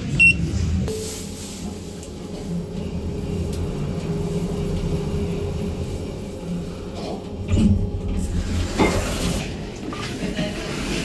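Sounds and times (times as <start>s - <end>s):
lift low hum: 0.0s - 9.4s.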